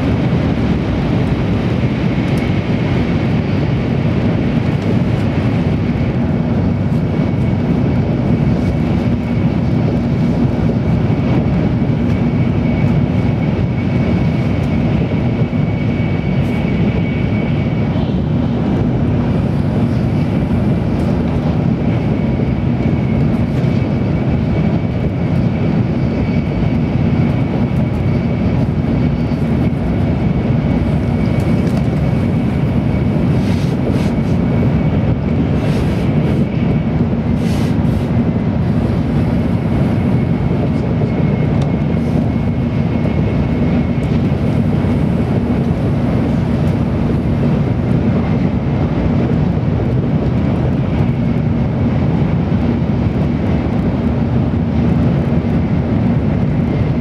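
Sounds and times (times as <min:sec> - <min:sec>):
train cabin rumble: 0:00.0 - 0:56.5.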